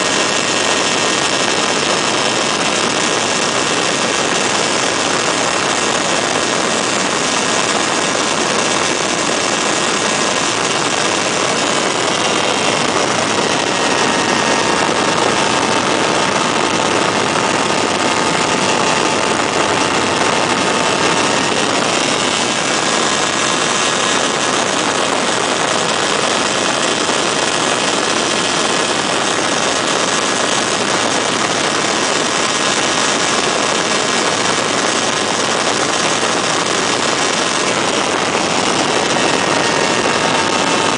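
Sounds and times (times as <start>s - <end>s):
loud rushing noise: 0.0s - 40.9s
ultralight engine and propeller: 0.0s - 40.9s.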